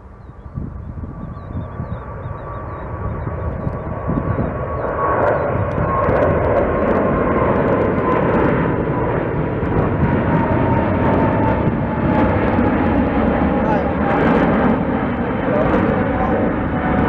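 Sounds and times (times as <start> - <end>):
faint engine whine dropping in pitch: 0.0 - 17.0
jet engines rumbling: 0.0 - 17.0.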